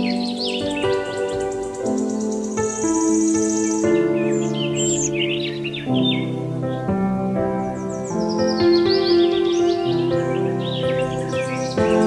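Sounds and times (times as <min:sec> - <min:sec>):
bird chirps and twitters: 0:00.0 - 0:12.0
calm instrumental music: 0:00.0 - 0:12.0.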